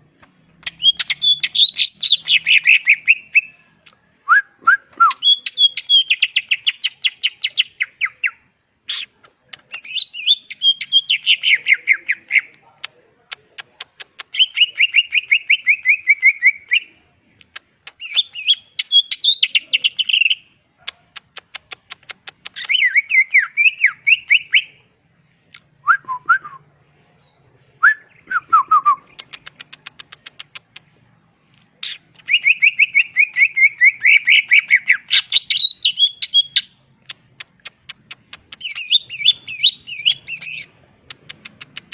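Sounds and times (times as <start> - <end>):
bird singing chattering phrases: 0.6 - 3.6, 5.1 - 24.8, 29.0 - 30.9, 31.8 - 41.9.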